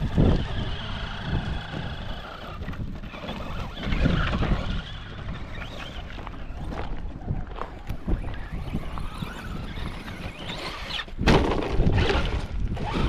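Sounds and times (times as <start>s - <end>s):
remote control car motor whining: 0.0s - 13.0s
wind rumble on microphone: 0.0s - 13.0s.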